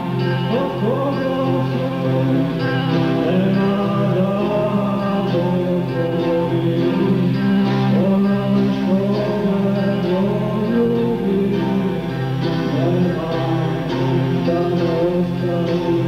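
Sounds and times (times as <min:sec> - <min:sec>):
droning accompaniment with guitar: 0:00.0 - 0:16.0
man singing: 0:00.0 - 0:16.0.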